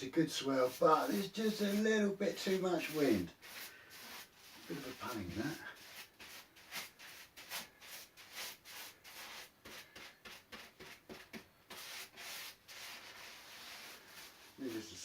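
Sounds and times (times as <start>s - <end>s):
tool rubbing resin into cloth: 0.6s - 14.9s.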